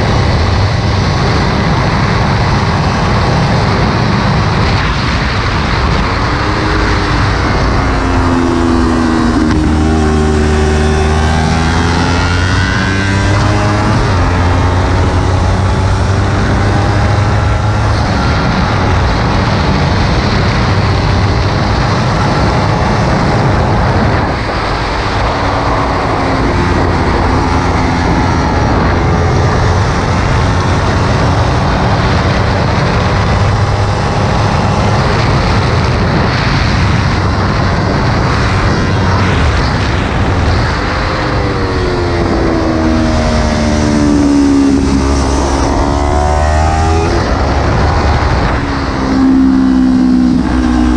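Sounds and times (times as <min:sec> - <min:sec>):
motorcycle engine running hard: 0:00.0 - 0:50.9
wind noise: 0:00.0 - 0:50.9.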